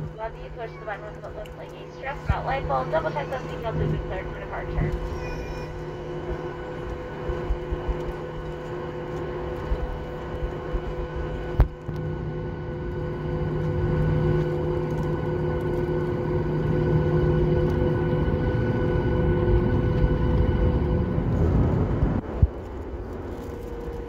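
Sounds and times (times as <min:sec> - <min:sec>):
aircraft engines humming in cabin: 0:00.0 - 0:24.0.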